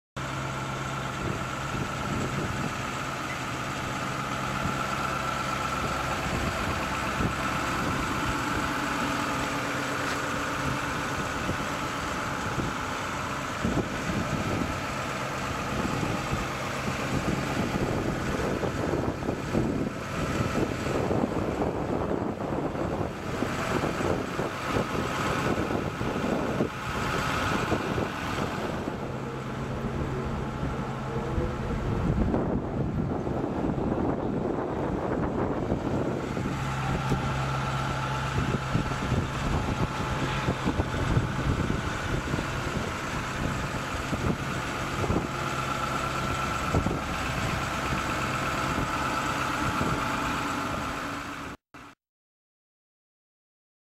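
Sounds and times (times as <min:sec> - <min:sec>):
truck engine idling: 0:00.2 - 0:51.9
uneven rumbling noise: 0:00.8 - 0:51.0.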